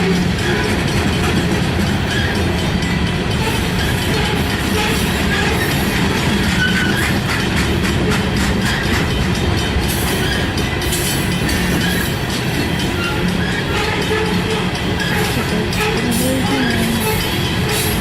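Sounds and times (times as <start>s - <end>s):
freight train rolling past: 0.0s - 18.0s
wheels clicking over rail joints: 0.0s - 18.0s.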